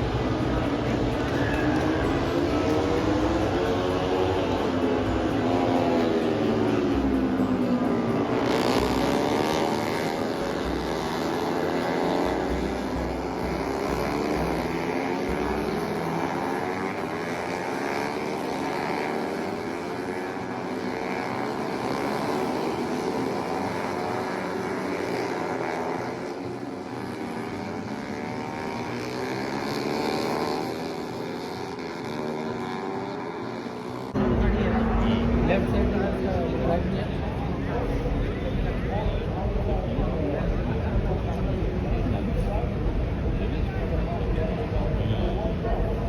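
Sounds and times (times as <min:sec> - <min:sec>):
racing motorcycle engines revving: 0:00.0 - 0:46.0.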